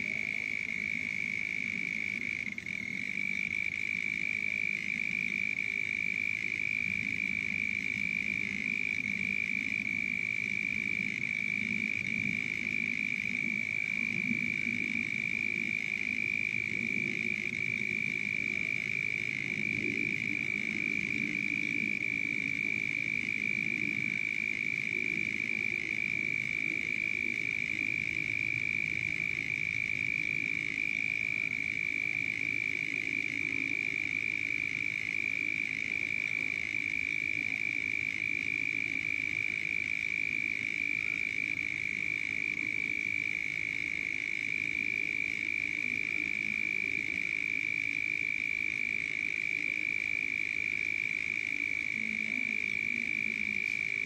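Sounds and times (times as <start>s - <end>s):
frogs croaking: 0.0s - 54.0s
frogs trilling: 0.0s - 54.0s.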